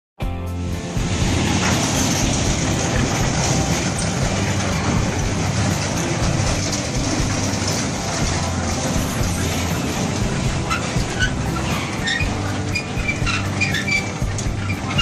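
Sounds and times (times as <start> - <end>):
ride train wheels rolling on rails: 0.5 - 15.0.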